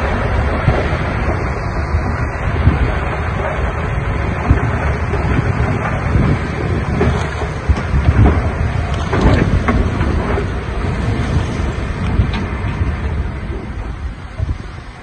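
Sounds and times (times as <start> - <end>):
diesel engine running: 0.0 - 15.0
wind buffeting microphone: 0.0 - 15.0.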